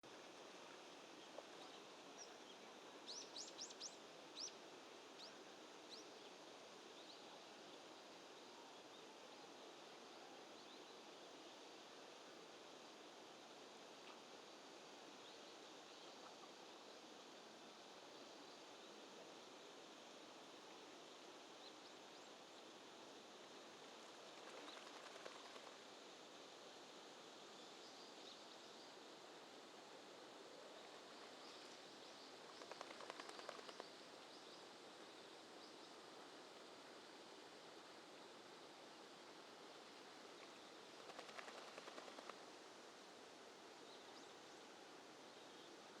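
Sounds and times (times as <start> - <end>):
faint outdoor hiss: 0.0 - 46.0.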